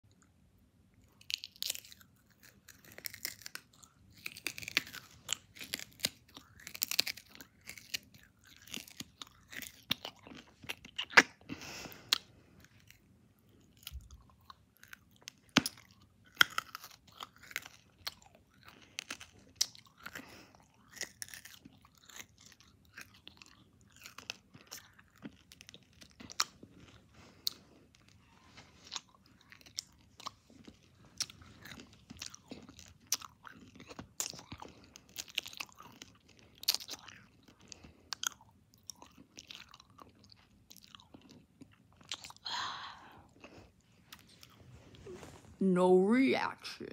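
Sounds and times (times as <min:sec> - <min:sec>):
hard candy crunching: 0:01.0 - 0:44.6.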